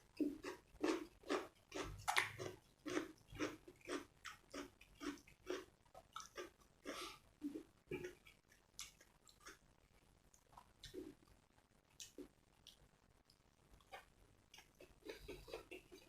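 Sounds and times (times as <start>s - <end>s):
person chewing food: 0.0s - 9.7s, 10.3s - 11.3s, 11.9s - 16.0s.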